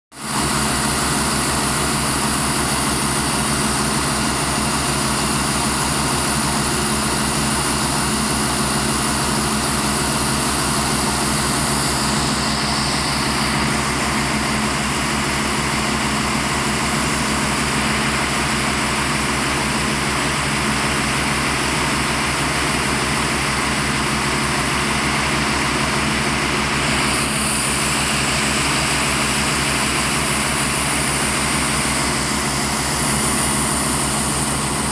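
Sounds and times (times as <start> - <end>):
diesel engine and compressor running: 0.2 - 34.9.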